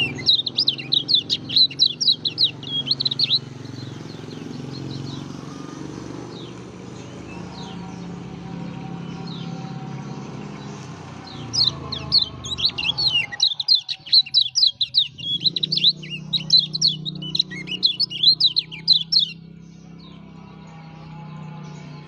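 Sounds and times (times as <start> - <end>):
bird chirping high notes: 0.0 - 20.2.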